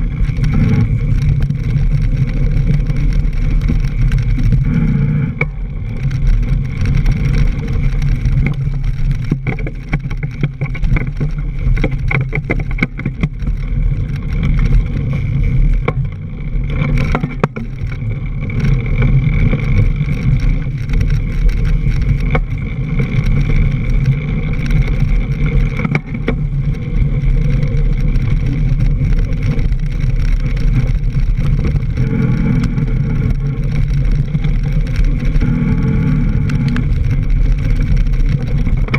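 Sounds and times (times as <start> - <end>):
bike rattling over bumps: 0.0 - 38.9
wind and tyres rumbling: 0.0 - 38.9.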